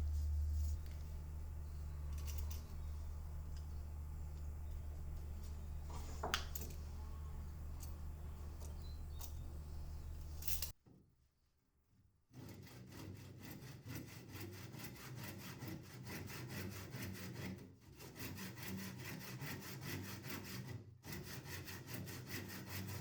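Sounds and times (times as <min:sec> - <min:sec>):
hand saw cutting wood: 0:00.0 - 0:10.4, 0:12.4 - 0:23.0.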